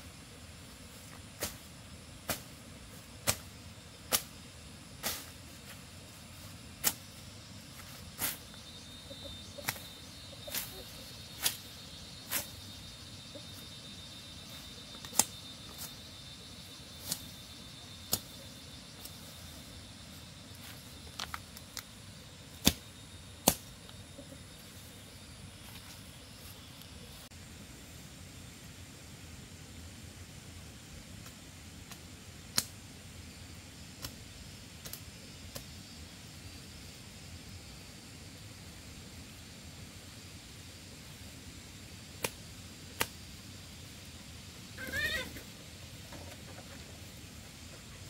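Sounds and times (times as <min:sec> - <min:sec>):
low hiss: 0:00.0 - 0:48.0.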